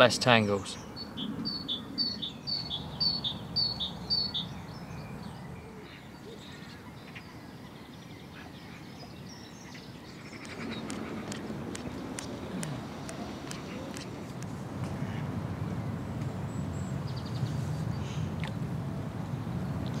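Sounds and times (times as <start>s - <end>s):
soft distant bird calls: 0.0s - 20.0s.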